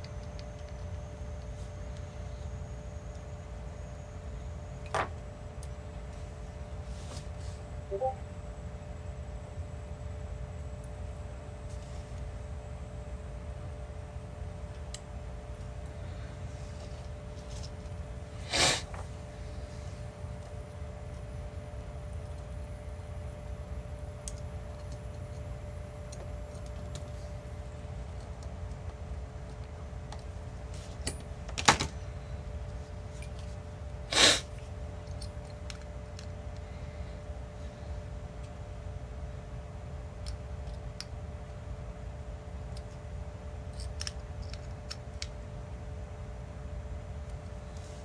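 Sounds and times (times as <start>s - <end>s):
low steady room hum: 0.0s - 48.0s.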